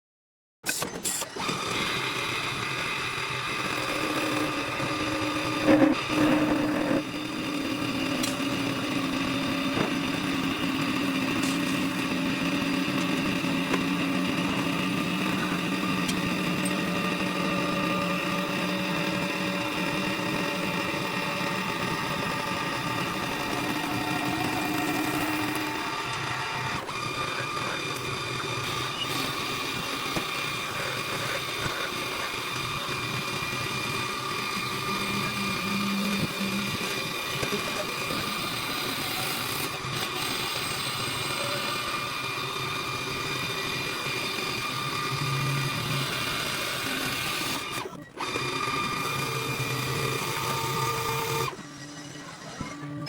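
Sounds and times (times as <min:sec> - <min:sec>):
lathe machine whine: 0:01.2 - 0:53.0.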